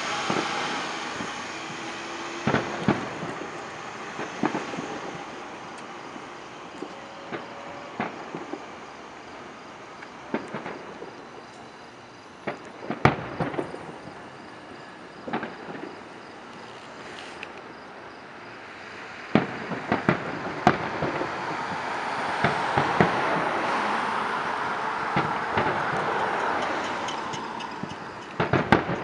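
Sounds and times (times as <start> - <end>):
distant fireworks bangs: 0.0 - 11.5, 12.4 - 16.3, 19.2 - 29.0
street traffic noise: 0.0 - 29.0.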